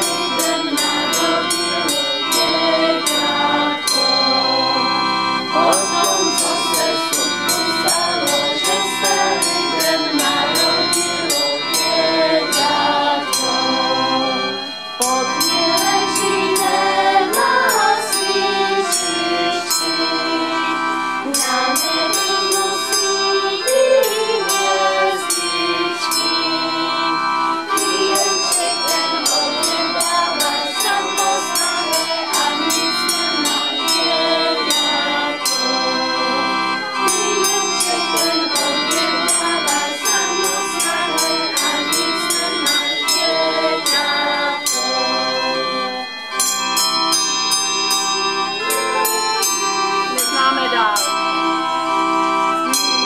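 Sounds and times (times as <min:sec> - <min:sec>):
group of people singing: 0:00.0 - 0:46.5
pipe organ: 0:00.0 - 0:53.0
tuned bells ringing: 0:00.0 - 0:53.0.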